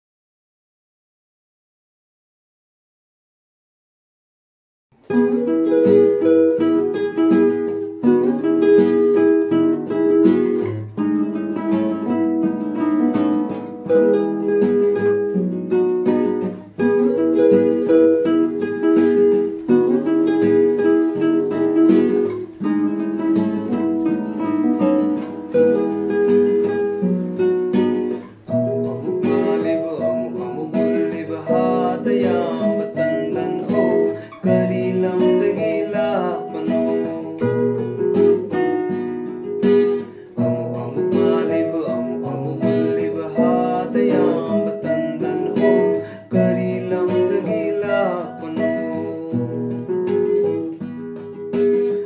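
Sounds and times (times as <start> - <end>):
strummed acoustic guitar chords: 5.0 - 52.0.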